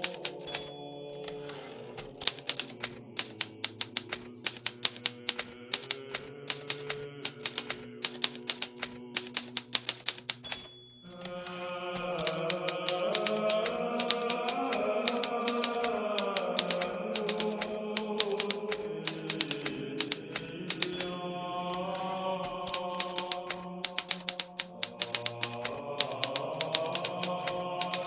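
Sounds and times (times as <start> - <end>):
typewriter bell ringing: 0.0 - 11.6, 12.2 - 28.0
typewriter keys clicking: 0.0 - 28.0.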